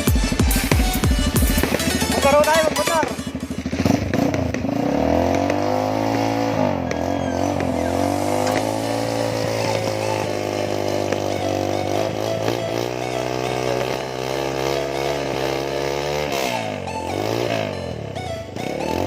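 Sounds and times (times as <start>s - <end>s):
small motorcycle engine revving: 0.0s - 19.0s.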